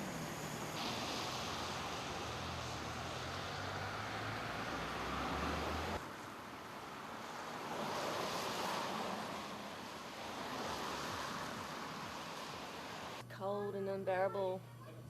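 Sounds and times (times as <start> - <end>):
car tyres passing: 0.0 - 13.2
steady street hiss: 0.0 - 14.9.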